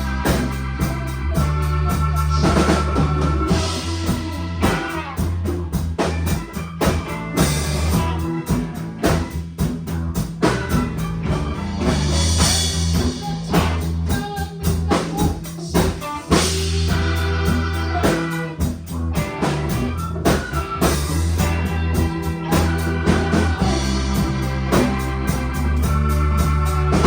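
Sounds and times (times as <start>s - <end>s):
drum kit beat: 0.0s - 27.0s
rock band playing: 0.0s - 27.0s.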